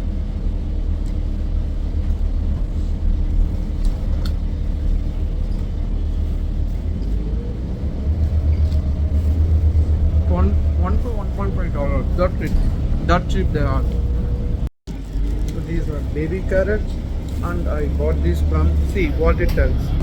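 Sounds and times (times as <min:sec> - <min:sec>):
bus engine drone: 0:00.0 - 0:20.0
road rumble: 0:00.0 - 0:20.0.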